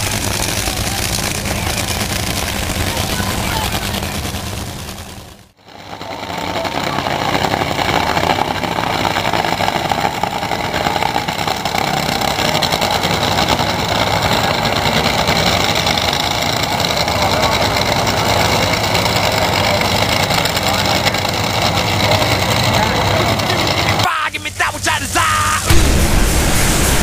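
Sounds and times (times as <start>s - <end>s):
dragster engines idling loudly: 0.0s - 25.8s.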